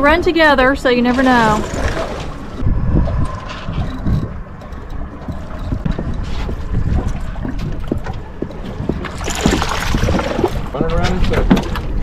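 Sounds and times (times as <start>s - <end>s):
wind buffeting microphone: 0.0s - 12.0s
water splashes: 0.9s - 12.0s.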